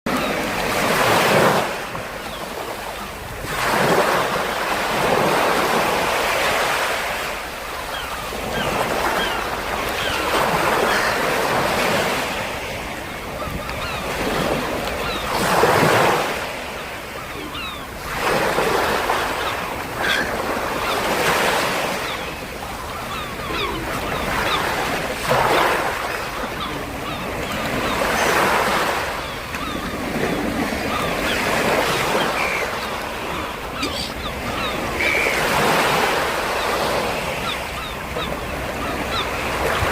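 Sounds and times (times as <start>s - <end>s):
wind: 0.0s - 39.9s
waves breaking on shore: 0.1s - 39.9s.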